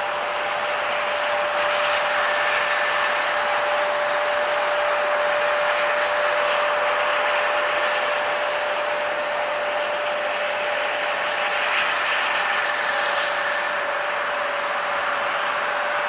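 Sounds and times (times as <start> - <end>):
jet engines hissing and whining: 0.0 - 16.0.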